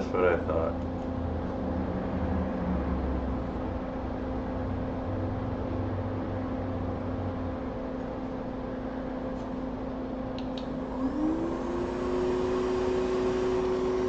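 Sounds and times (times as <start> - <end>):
electric bench equipment whirring: 0.0 - 14.0.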